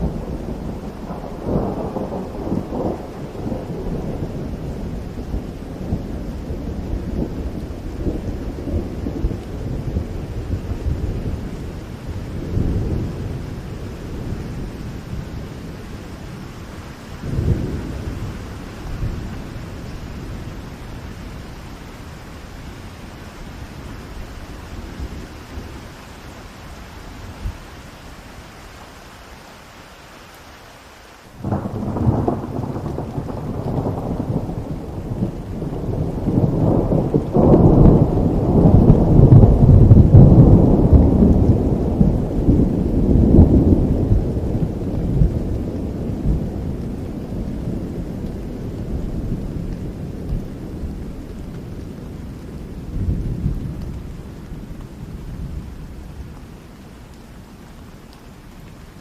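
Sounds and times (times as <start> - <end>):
thunder rumbling: 0.0 - 27.9, 31.4 - 59.0
steady rain: 0.0 - 59.0.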